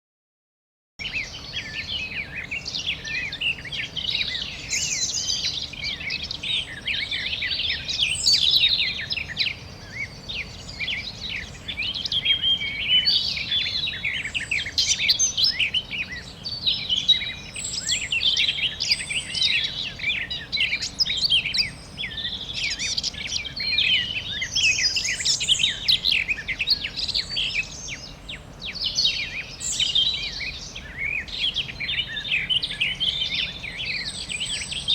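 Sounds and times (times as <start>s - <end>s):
small birds chirping: 1.0s - 34.9s.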